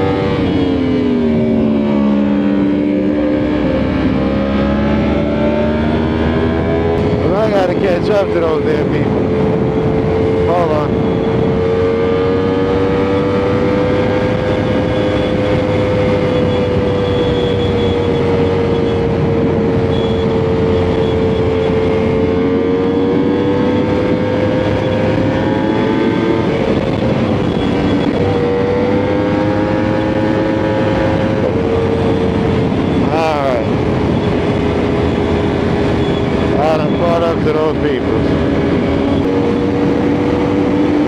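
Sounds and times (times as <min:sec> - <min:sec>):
motorcycle engine at high revs: 0:00.0 - 0:41.0
wind and road noise: 0:00.0 - 0:41.0.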